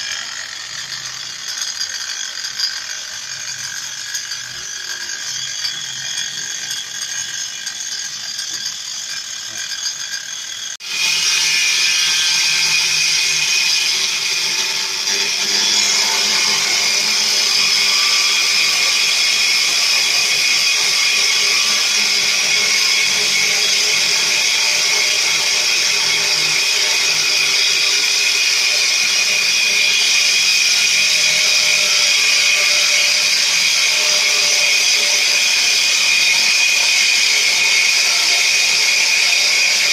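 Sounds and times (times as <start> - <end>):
angle grinder whining: 0.0 - 39.9.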